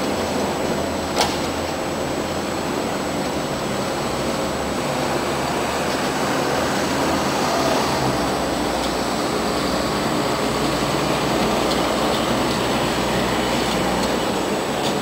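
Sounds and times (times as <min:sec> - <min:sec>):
distant lawn mower engine: 0:00.0 - 0:15.0.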